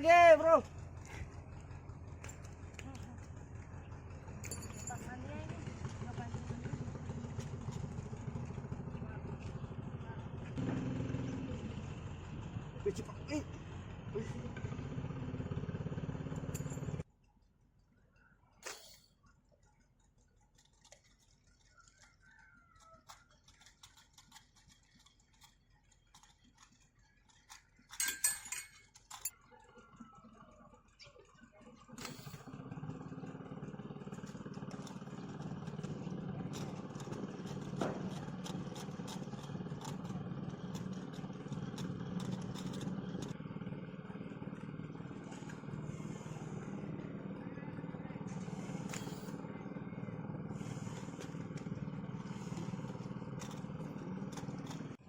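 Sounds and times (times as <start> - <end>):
motor drone with low hum: 0.0 - 55.0.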